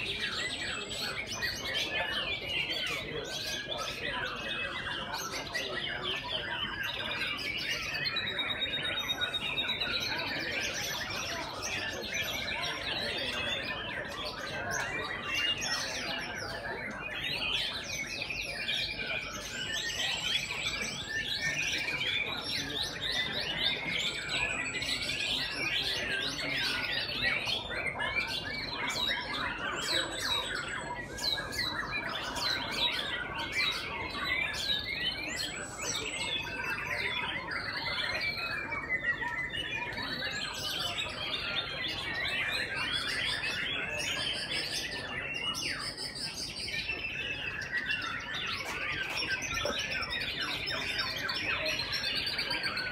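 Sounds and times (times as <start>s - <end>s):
chorus of songbirds singing: 0.0s - 52.9s.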